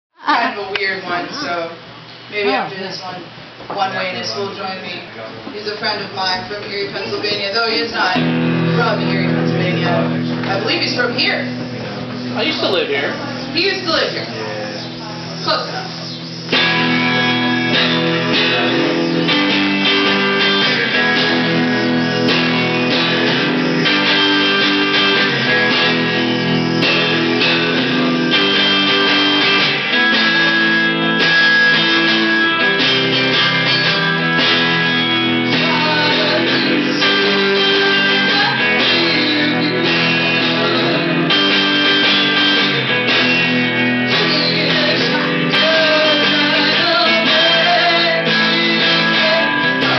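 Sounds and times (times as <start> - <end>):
electric guitar chords: 6.1 - 49.9.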